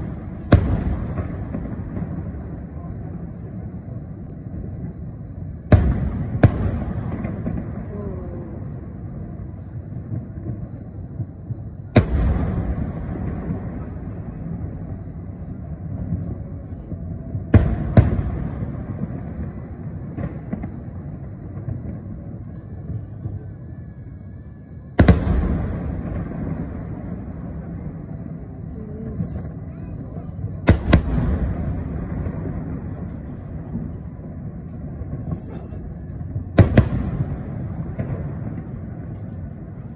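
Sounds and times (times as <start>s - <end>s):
firework bangs: 0.0s - 23.5s, 24.8s - 39.9s.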